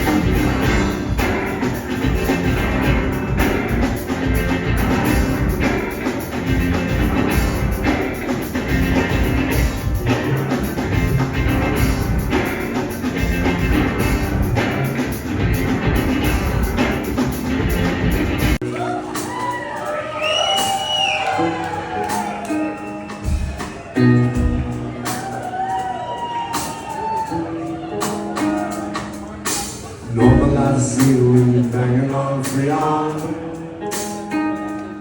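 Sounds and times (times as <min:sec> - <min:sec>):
drum kit beat: 0:00.0 - 0:35.0
live rock band playing: 0:00.0 - 0:35.0.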